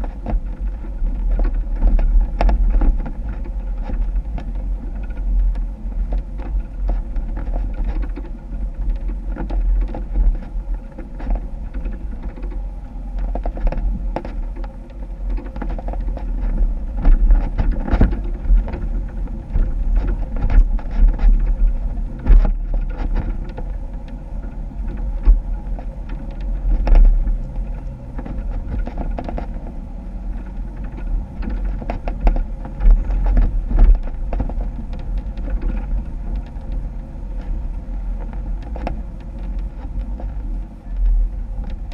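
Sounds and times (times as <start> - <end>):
vehicle knocks and clunks: 0.0 - 41.9.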